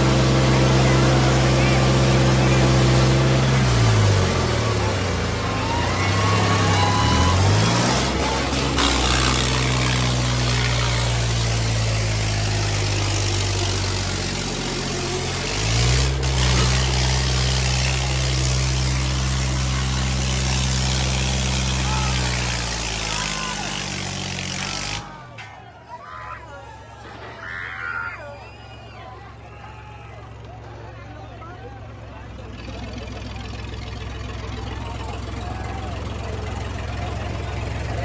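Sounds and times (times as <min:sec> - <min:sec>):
diesel tractor engine straining: 0:00.0 - 0:38.0.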